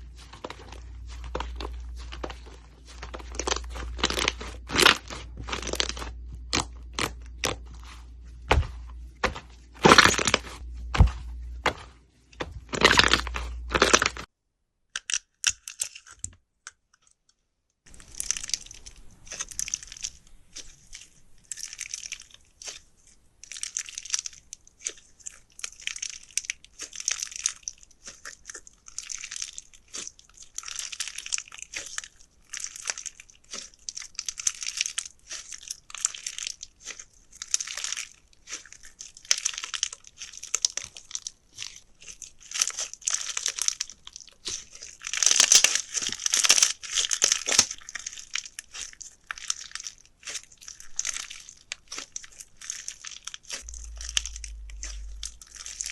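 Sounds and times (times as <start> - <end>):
slime crackling when squeezed: 0.1 - 11.9, 17.9 - 55.9.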